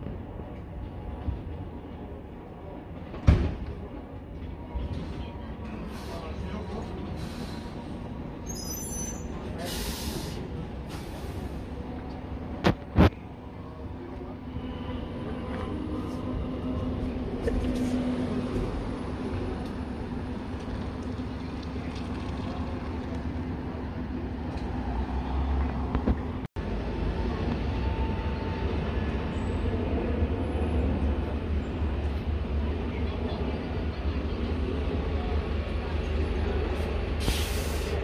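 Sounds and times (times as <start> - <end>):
bus engine rumble: 0.0 - 38.0
traffic noise: 0.0 - 38.0.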